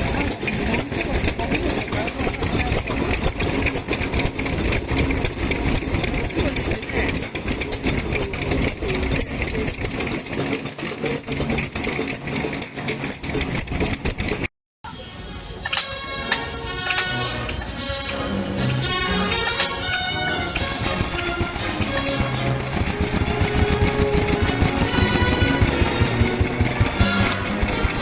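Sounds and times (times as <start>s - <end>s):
stationary engines popping: 0.0s - 14.5s, 19.6s - 28.0s.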